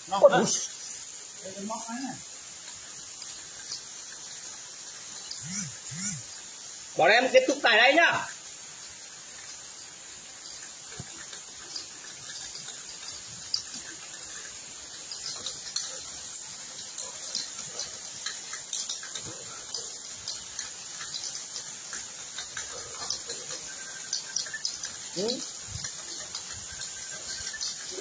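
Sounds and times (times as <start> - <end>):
meat sizzling on grill: 0.0 - 28.0.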